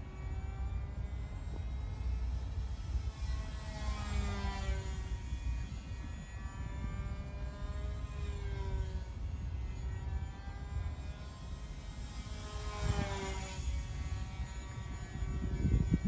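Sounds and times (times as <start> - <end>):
rc plane motors whining: 0.0 - 16.0.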